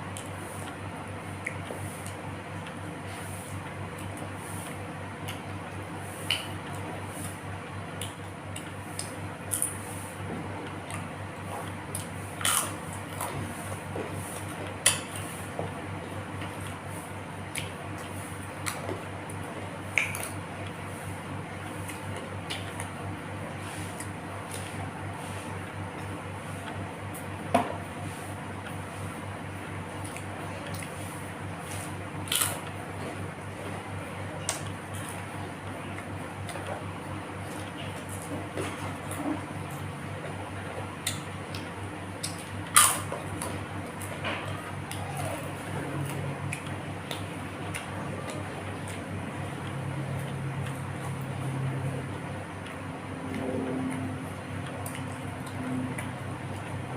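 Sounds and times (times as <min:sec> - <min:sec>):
chewing with wet smacks: 0:00.0 - 0:27.8, 0:28.6 - 0:56.9
steady low hum: 0:00.0 - 0:56.9.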